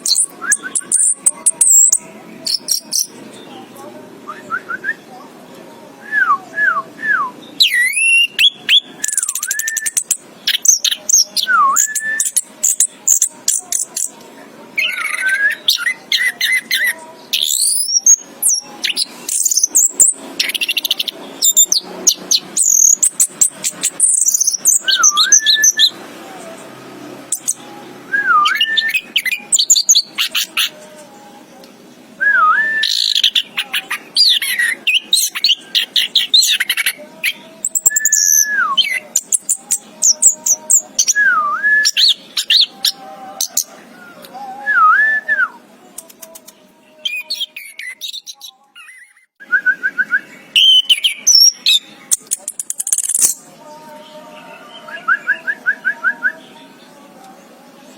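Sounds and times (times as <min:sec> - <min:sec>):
thrush singing: 0:00.0 - 0:57.9.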